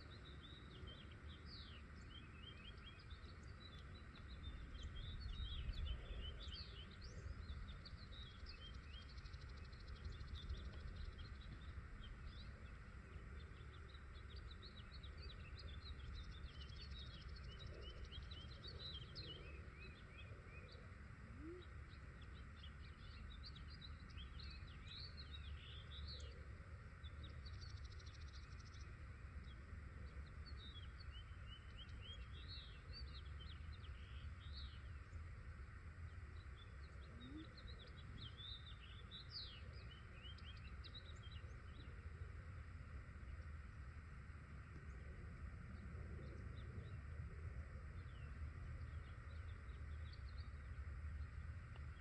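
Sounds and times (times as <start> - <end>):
faint low background noise: 0.0 - 52.0
small birds chirping: 0.0 - 52.0.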